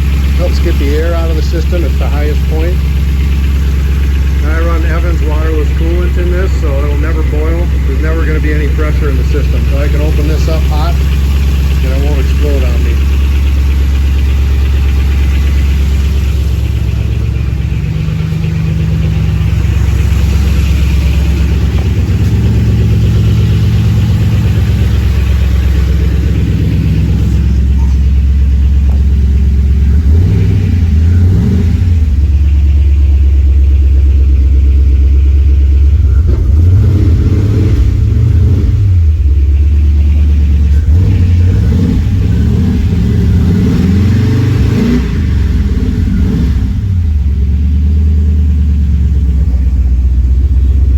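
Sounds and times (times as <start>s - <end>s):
pickup truck engine revving: 0.0s - 50.9s.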